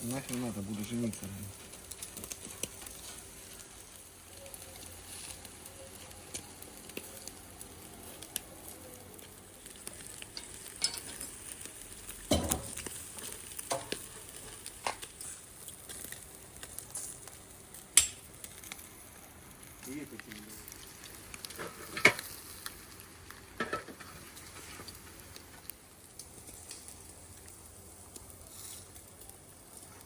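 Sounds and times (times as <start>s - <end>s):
crackles and clicks: 0.0s - 30.0s
meat sizzling on a grill: 0.0s - 30.0s.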